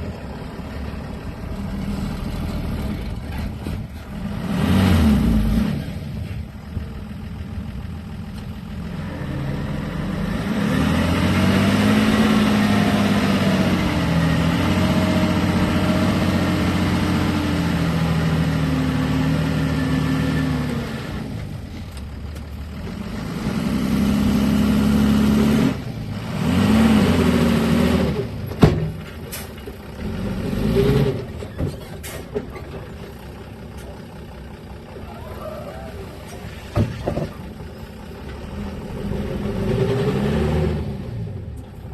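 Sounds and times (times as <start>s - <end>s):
heavy vehicle engine revving: 0.0s - 41.9s.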